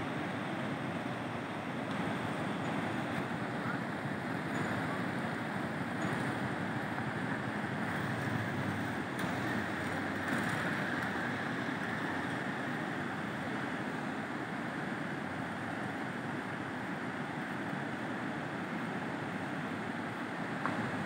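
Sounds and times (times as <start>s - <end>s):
river water rushing over rocks: 0.0s - 21.0s.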